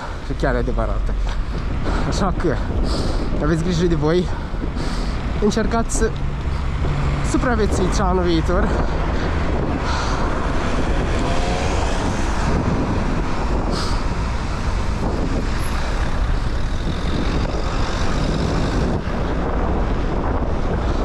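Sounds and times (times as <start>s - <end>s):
road traffic noise: 0.0s - 21.0s
wind buffeting microphone: 0.0s - 21.0s.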